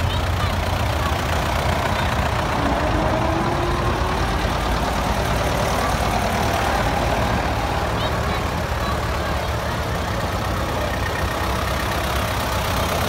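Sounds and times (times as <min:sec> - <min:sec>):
tractor engines running: 0:00.0 - 0:13.0.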